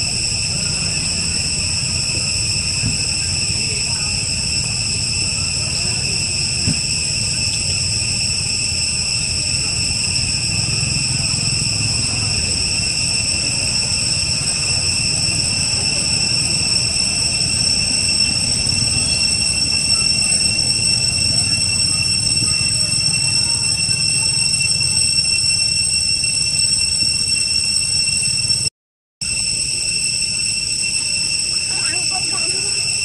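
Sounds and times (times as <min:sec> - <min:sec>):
high-pitched insect drone: 0:00.0 - 0:33.0.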